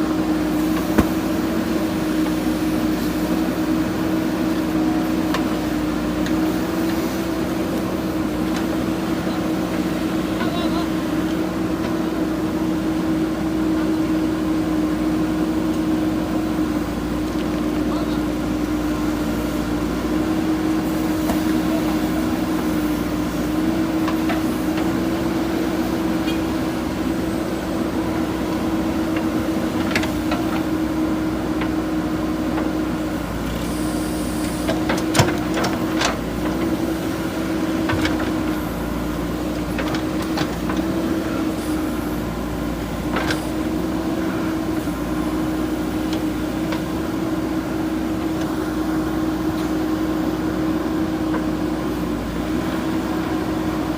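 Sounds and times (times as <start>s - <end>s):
backhoe diesel engine running: 0.0s - 53.9s.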